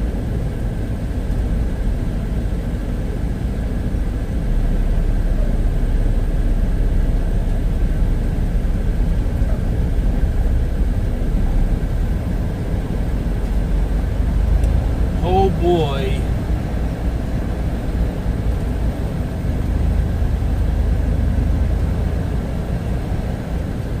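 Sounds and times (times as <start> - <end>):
truck diesel engine rumble: 0.0 - 24.0.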